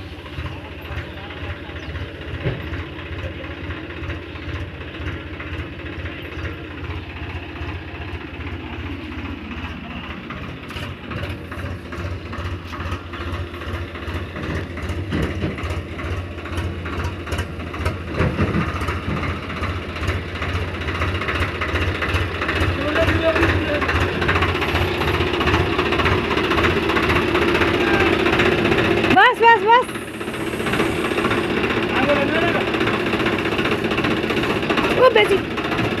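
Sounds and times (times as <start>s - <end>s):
tractor engine throbbing: 0.0s - 36.0s.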